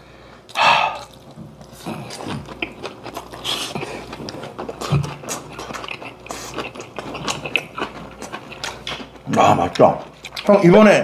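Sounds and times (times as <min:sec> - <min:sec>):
slurping and chewing: 0:00.5 - 0:10.6.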